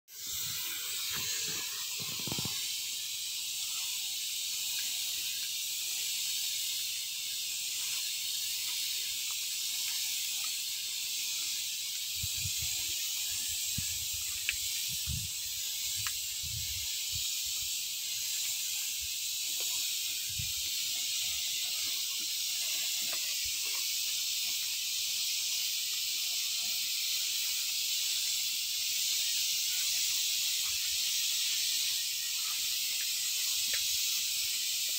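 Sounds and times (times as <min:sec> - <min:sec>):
spray gun hissing: 0:00.1 - 0:34.9.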